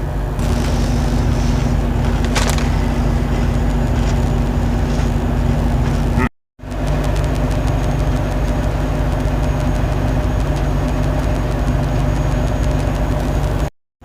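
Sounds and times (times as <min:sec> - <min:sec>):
low machine hum: 0:00.0 - 0:13.7.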